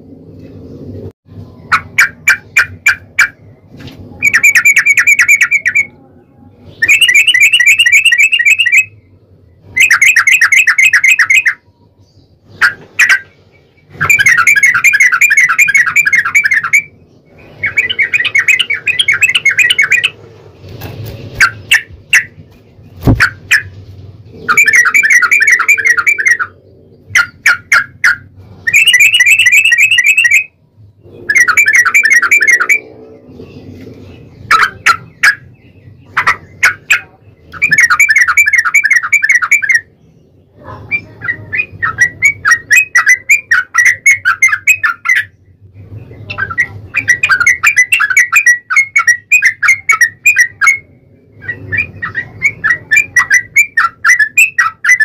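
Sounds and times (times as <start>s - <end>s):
bulbul song: 1.3s - 20.2s, 24.4s - 33.3s, 34.4s - 45.4s, 46.2s - 55.0s.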